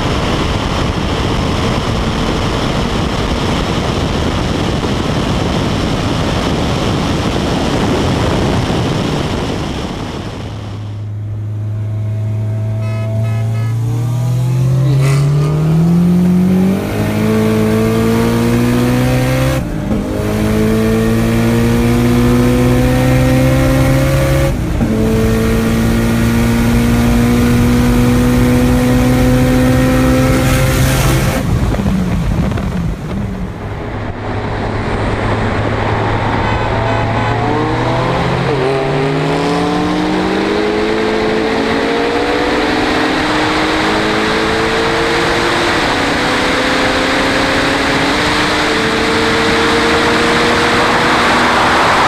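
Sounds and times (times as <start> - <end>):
car engine accelerating: 0.0 - 52.0
wind and road noise: 0.0 - 52.0.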